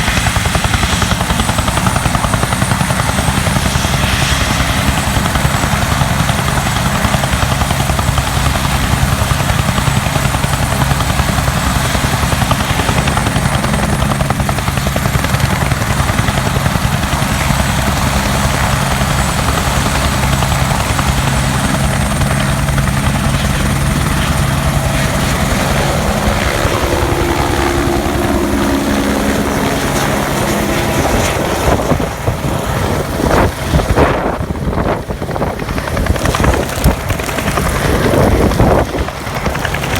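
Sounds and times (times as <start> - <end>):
helicopter turbine and rotor: 0.0 - 39.9.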